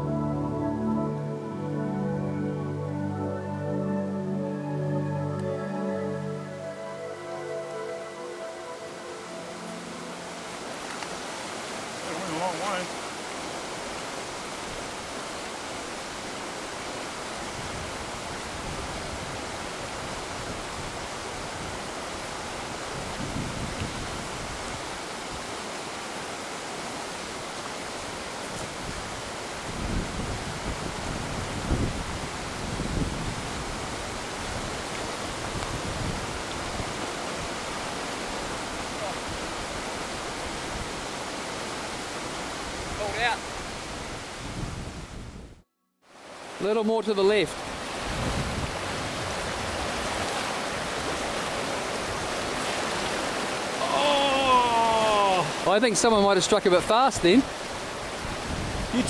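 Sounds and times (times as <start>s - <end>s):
river rushing over stones: 5.3s - 45.1s, 46.1s - 59.0s.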